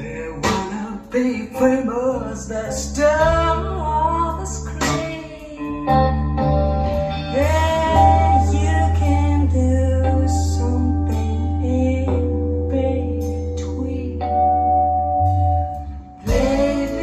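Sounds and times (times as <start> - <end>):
deep bass notes: 0.0 - 17.0
guitar: 0.0 - 17.0.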